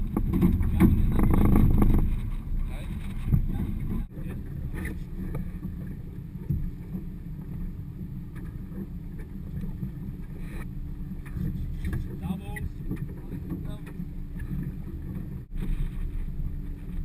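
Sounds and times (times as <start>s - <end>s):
water slapping against boat hull: 0.0s - 17.0s
wind rumbling on microphone: 0.0s - 17.0s.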